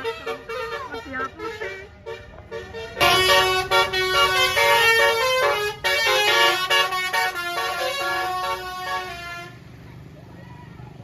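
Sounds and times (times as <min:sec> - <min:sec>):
musical air horn notes: 0:00.0 - 0:09.6.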